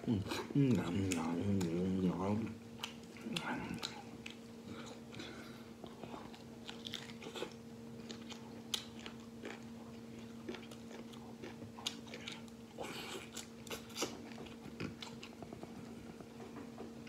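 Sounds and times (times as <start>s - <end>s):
person chewing and biting meat: 2.7s - 17.0s.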